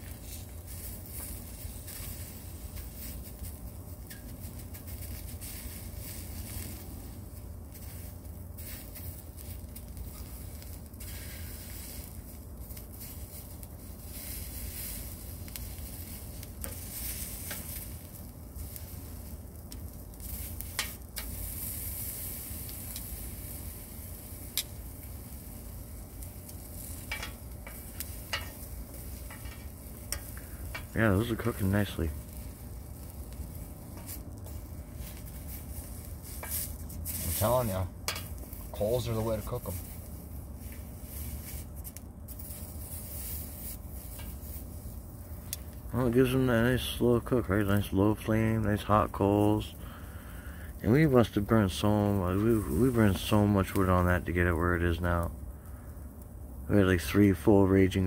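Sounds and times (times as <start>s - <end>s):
sausages sizzling: 0.0s - 58.0s.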